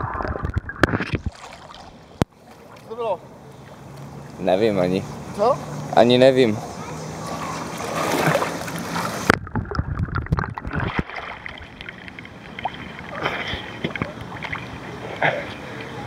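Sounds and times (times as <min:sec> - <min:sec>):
water sloshing and lapping: 0:00.0 - 0:04.4, 0:07.0 - 0:16.0.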